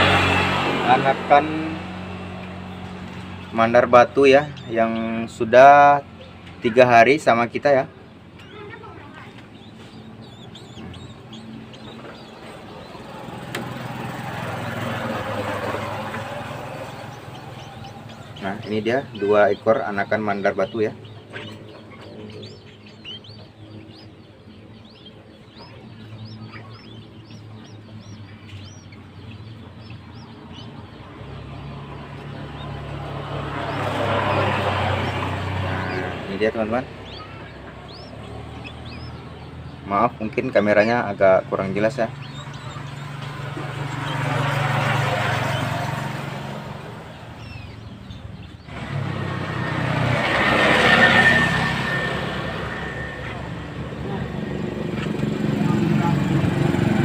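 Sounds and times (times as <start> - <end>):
vehicle engine hum: 0.0 - 57.0
young birds chirping: 0.0 - 57.0.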